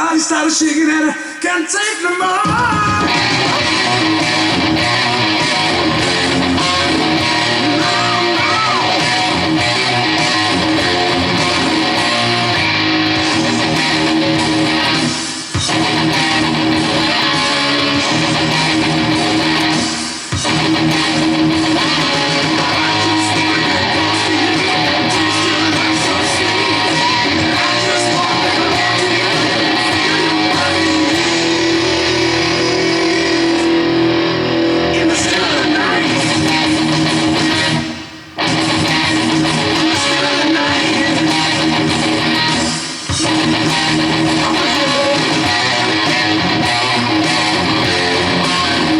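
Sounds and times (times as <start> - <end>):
electric guitar playing: 2.4 - 48.9.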